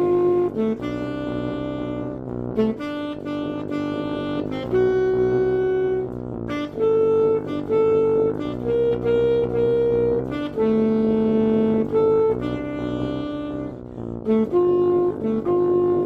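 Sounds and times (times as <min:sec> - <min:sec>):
alto saxophone melody: 0:00.0 - 0:16.0
keyboard chords: 0:00.0 - 0:16.0.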